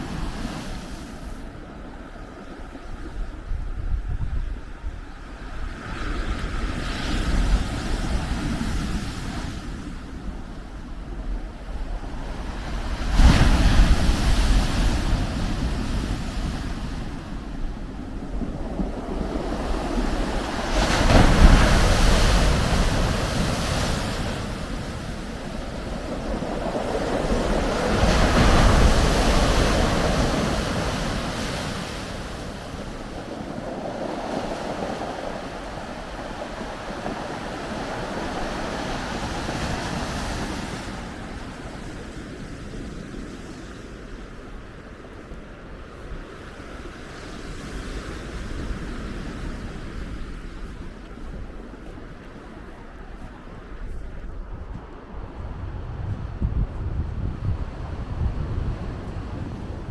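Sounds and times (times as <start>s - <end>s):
waves breaking on shore: 0.0s - 59.9s
wind: 0.0s - 59.9s.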